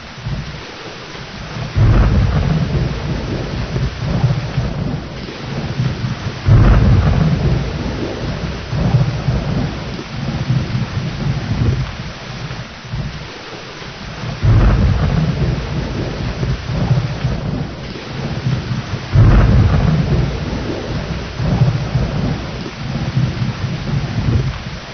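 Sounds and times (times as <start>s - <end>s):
steady rain: 0.0s - 24.9s
thunder rumbling: 0.0s - 24.9s
loud thunderclaps: 0.2s - 13.4s, 14.0s - 24.9s.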